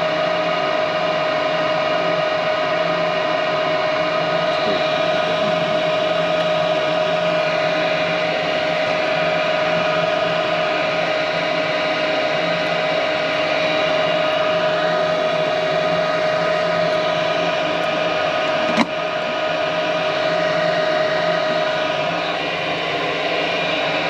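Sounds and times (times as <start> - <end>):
furnace inducer motor hum: 0.0 - 24.0.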